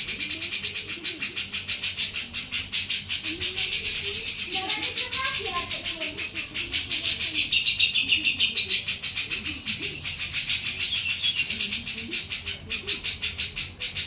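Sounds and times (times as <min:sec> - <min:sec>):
bird singing rattling song: 0:00.0 - 0:14.0.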